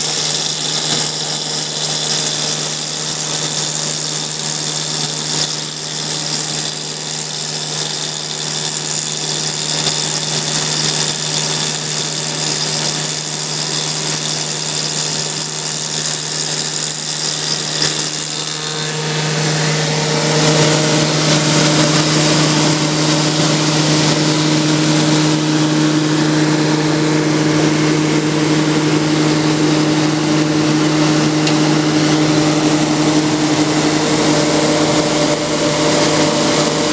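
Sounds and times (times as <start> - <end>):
woodworking machine humming: 0.0 - 36.9.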